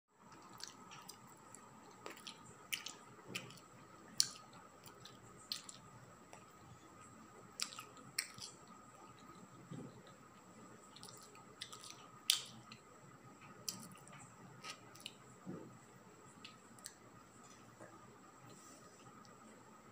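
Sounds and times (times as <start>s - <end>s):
kitten chewing with clicks and crunches: 0.2s - 19.8s.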